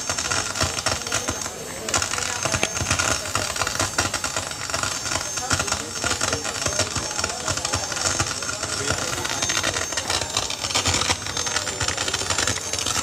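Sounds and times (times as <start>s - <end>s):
rapid clicks and crackles: 0.0s - 13.0s
thin high tones: 1.0s - 13.0s.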